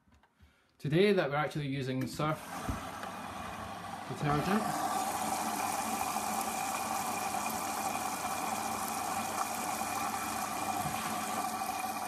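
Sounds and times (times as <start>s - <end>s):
washing machine humming: 2.3s - 12.0s.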